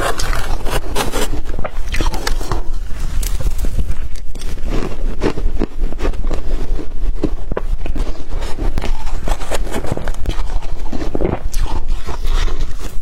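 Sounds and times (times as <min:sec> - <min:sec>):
chewing crunchy ice: 0:00.0 - 0:13.0.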